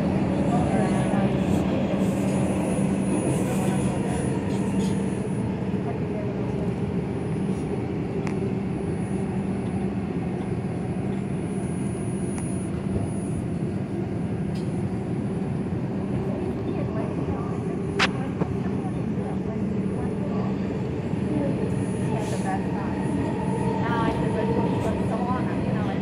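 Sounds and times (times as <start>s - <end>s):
constant low hum: 0.0s - 26.0s
subway wheels rumbling on rail: 0.0s - 26.0s.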